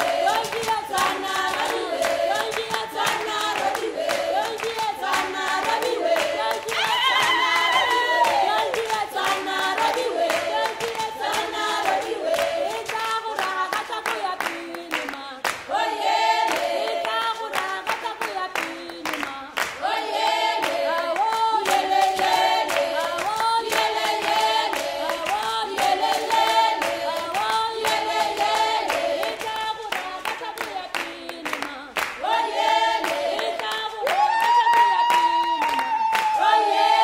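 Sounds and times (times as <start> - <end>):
group of voices singing: 0.0 - 37.0
hand claps: 0.0 - 37.0.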